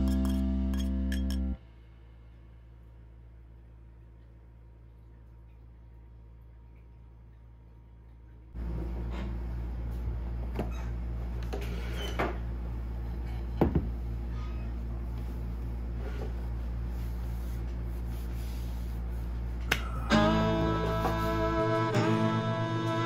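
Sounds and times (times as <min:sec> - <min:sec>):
low hum: 0:00.0 - 0:11.4, 0:12.4 - 0:23.0.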